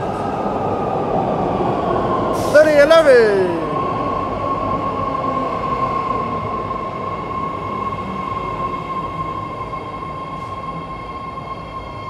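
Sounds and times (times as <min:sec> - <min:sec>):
subway train rumbling and whining: 0:00.0 - 0:12.0.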